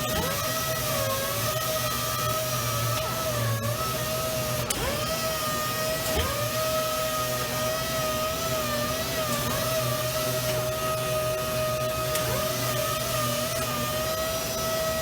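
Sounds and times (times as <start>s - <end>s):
power sander whining: 0.0s - 15.0s.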